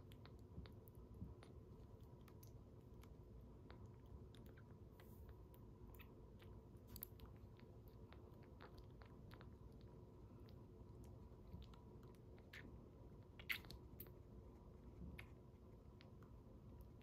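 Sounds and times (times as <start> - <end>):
kitten suckling from a bottle: 0.0 - 17.0
low steady hum: 0.0 - 17.0.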